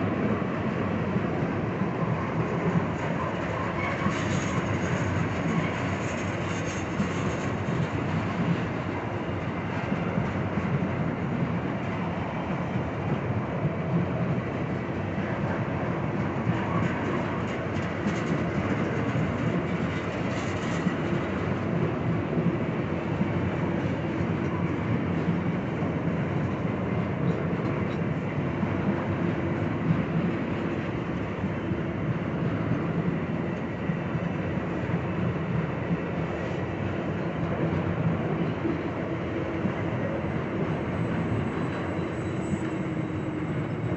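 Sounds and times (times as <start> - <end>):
diesel locomotive engine drone: 0.0 - 43.9
freight train wheels rumbling: 0.0 - 43.9.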